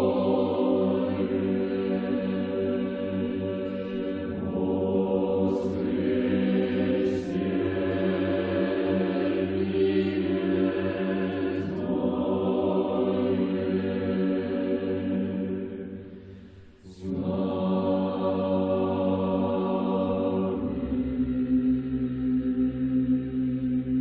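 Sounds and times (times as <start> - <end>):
choir singing held notes: 0.0 - 24.0
low drone: 0.0 - 24.0.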